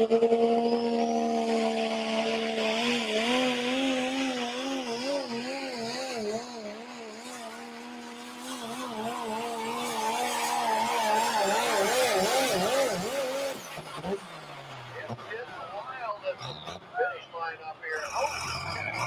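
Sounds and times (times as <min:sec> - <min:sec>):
diesel truck engine at full power: 0:00.0 - 0:19.0.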